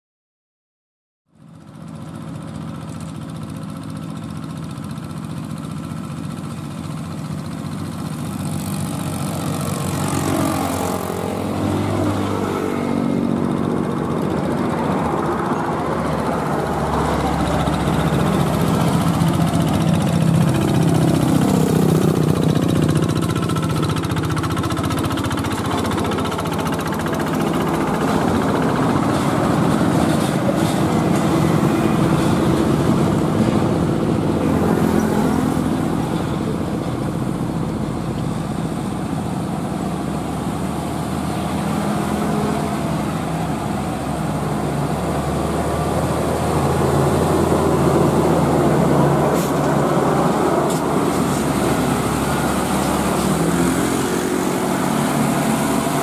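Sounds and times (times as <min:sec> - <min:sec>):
heavy truck diesel engine: 0:01.3 - 0:56.0
motorcycles passing by: 0:02.4 - 0:56.0.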